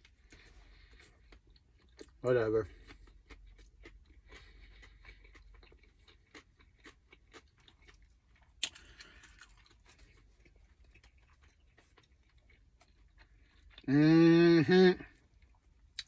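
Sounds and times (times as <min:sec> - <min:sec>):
chewing with wet mouth clicks: 0:00.0 - 0:13.9.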